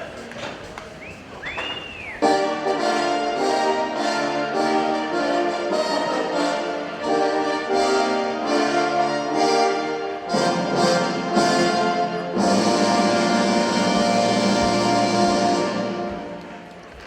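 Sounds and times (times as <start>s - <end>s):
orchestral brass chords: 2.3s - 16.6s.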